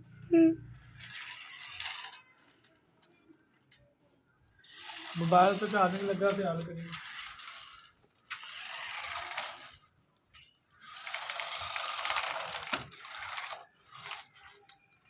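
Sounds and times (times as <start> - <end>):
toy car motor whirring: 0.7 - 2.8, 4.5 - 15.0.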